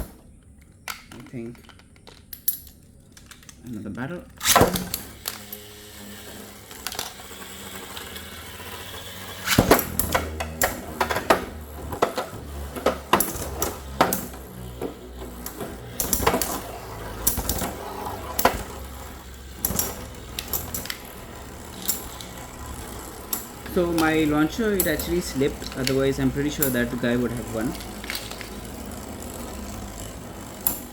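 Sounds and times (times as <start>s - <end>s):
low spinning hum: 3.7s - 30.9s
spinning tops colliding metallic clacks: 4.4s - 30.9s.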